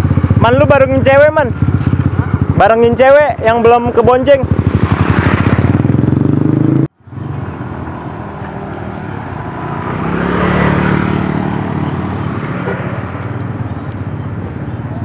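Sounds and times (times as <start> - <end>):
motorbike passing close: 0.0 - 15.0
motorcycle engines: 0.0 - 15.0.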